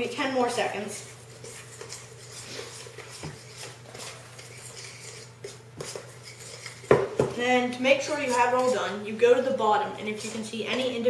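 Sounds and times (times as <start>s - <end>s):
utensil stirring flour in a bowl: 0.0s - 11.0s.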